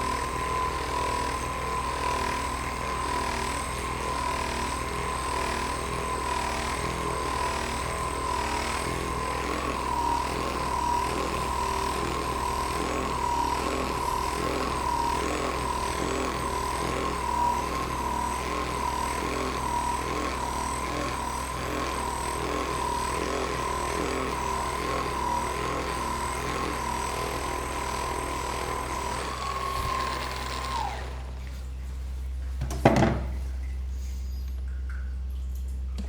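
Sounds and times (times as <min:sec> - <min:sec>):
massage gun motor hammering: 0:00.0 - 0:31.6.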